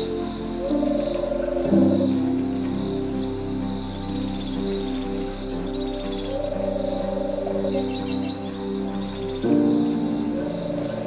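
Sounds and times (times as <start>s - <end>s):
background music with held tones: 0.0s - 11.0s
wild birds chirping: 0.0s - 11.0s.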